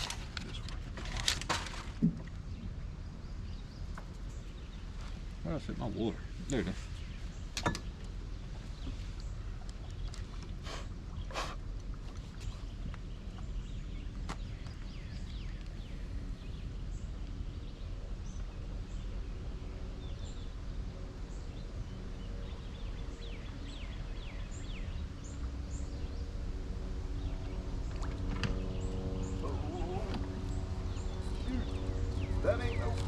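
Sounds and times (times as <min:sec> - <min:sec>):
low rumble: 0:00.0 - 0:33.0
birds chirping: 0:02.4 - 0:33.0.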